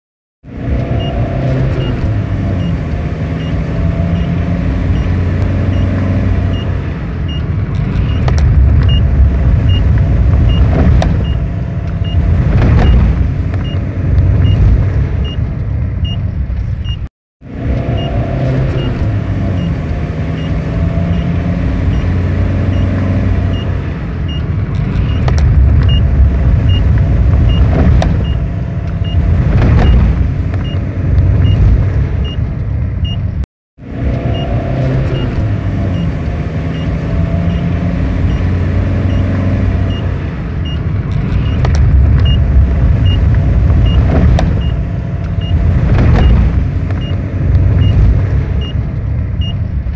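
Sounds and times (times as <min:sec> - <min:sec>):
road noise: 0:00.4 - 0:49.9
van engine while driving: 0:00.4 - 0:49.9.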